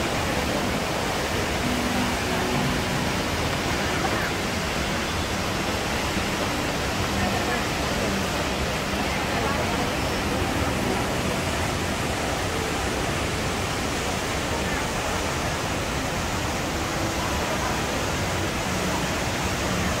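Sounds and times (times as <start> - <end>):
indoor waterfall rushing: 0.0 - 20.0.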